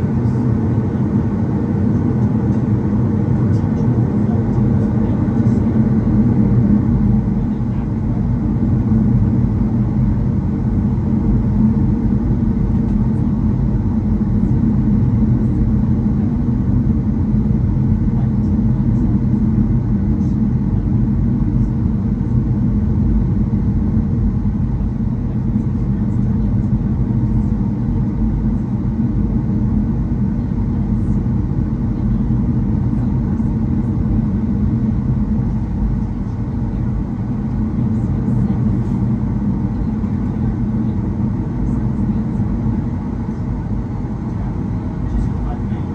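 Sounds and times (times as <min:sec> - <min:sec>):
jet engines idling in cabin: 0:00.0 - 0:45.9.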